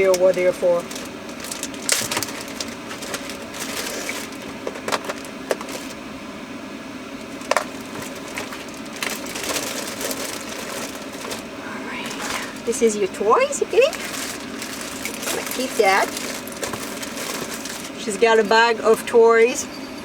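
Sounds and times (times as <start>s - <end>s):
small objects rustling and clattering: 0.0s - 6.0s, 7.3s - 19.0s.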